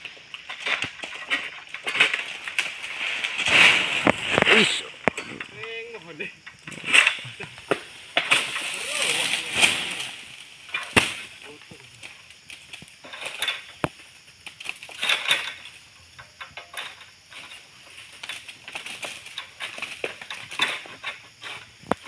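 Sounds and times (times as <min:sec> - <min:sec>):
palm leaves rustling: 0:00.0 - 0:22.0.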